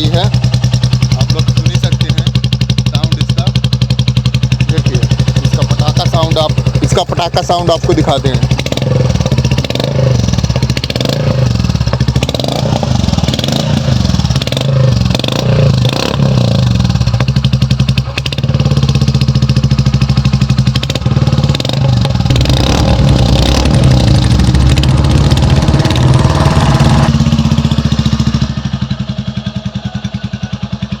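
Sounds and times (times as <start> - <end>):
motorcycle engine revving: 0.0 - 31.0
motorcycle engine thumping idle: 0.0 - 31.0.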